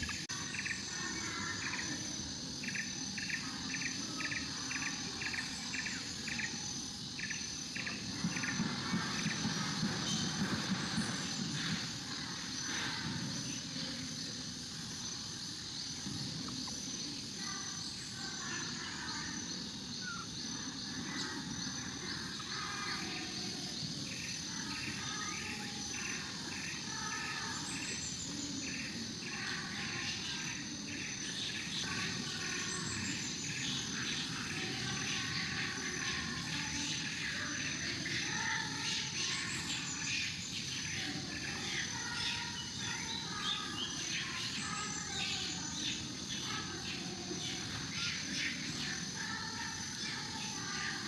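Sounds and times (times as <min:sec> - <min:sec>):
high insect drone: 0:00.0 - 0:51.0.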